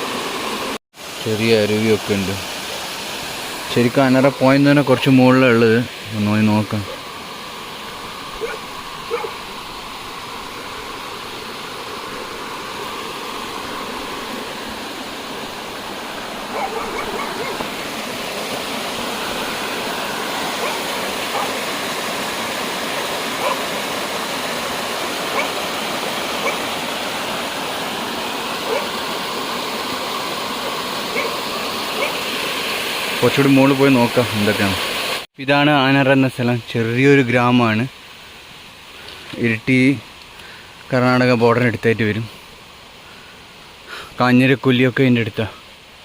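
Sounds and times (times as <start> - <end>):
stream rushing over rocks: 0.0 - 46.0.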